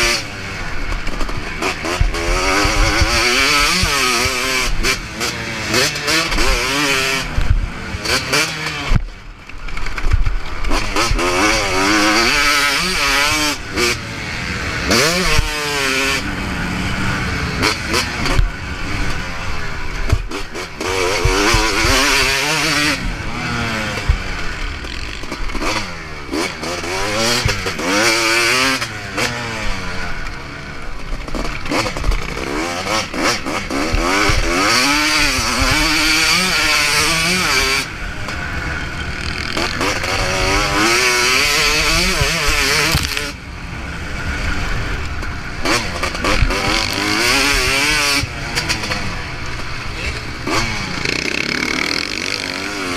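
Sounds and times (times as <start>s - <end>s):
motorbike engine revving: 0.0s - 52.9s.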